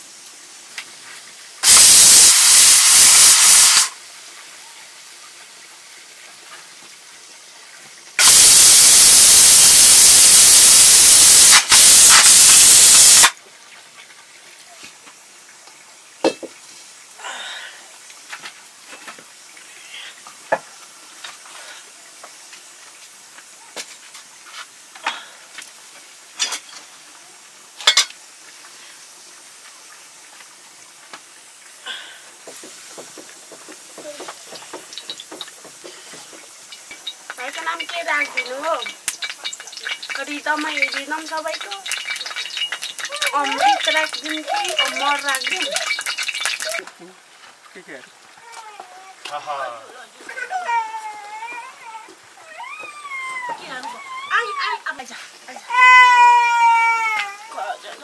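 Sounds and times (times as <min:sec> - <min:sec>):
loud hissing from cooking fire: 0:00.0 - 0:48.0, 0:53.6 - 0:56.8.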